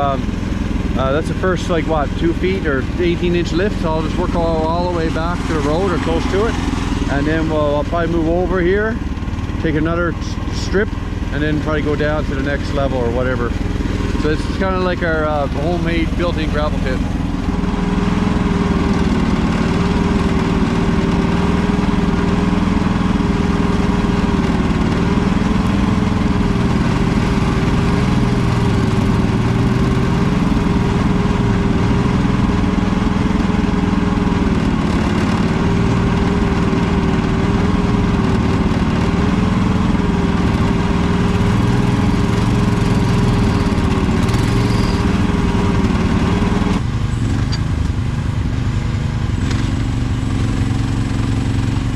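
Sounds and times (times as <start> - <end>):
mini excavator engine running: 0.0 - 51.9.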